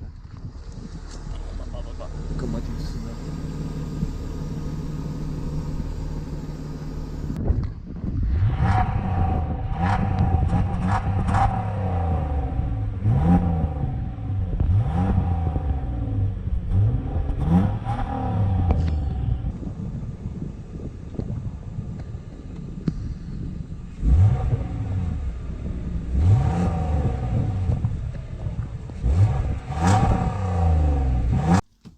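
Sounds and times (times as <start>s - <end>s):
car engine idling: 0.2s - 7.4s, 8.4s - 31.9s
car engine revving: 0.5s - 7.4s, 8.1s - 31.9s.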